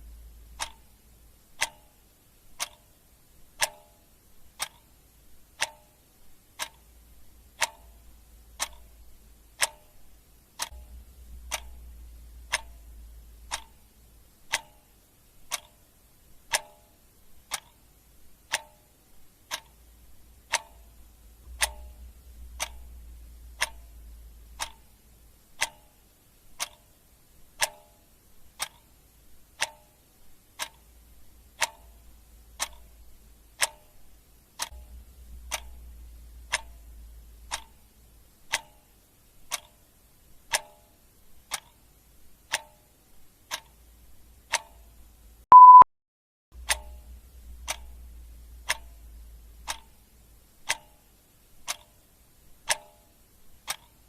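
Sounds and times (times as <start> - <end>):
clock ticking: 0.0 - 45.8, 46.6 - 54.0.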